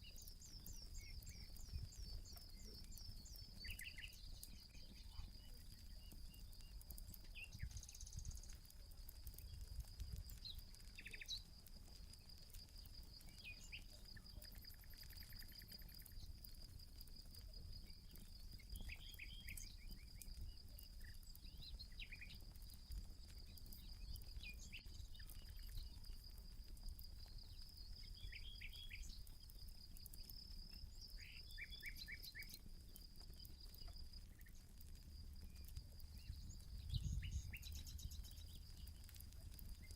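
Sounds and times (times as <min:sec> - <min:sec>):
birds chirping: 0:00.0 - 0:26.2, 0:26.9 - 0:39.9
campfire crackling: 0:00.0 - 0:39.9.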